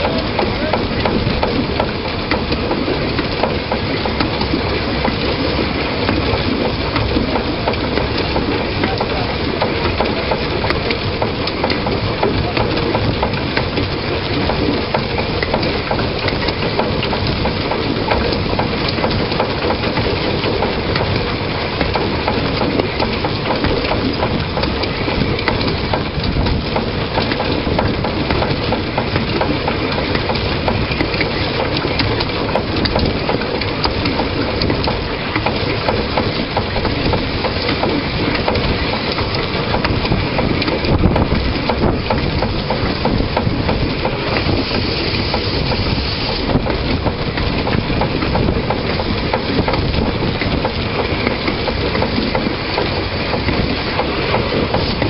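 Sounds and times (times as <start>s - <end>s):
train wheels rattling on rails: 0.0s - 55.0s.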